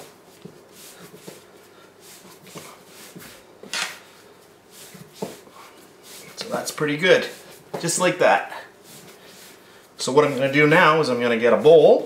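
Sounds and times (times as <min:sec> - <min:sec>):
dough being kneaded by hand: 0:00.0 - 0:12.0.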